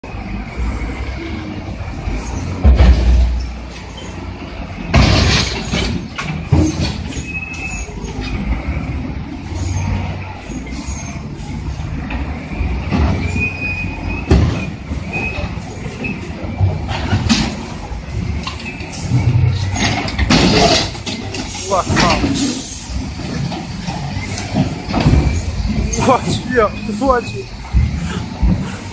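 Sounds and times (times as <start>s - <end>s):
bulldozer engines running: 0.0s - 28.9s
crawler tracks squealing: 2.0s - 2.6s, 3.2s - 28.9s.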